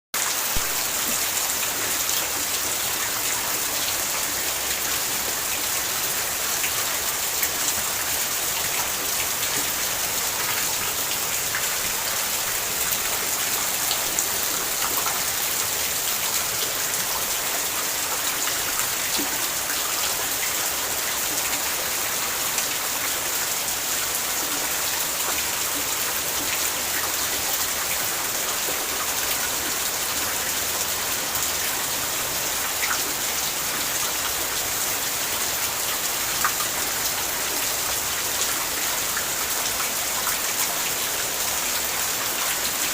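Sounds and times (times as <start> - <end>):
rain falling: 0.2 - 42.9.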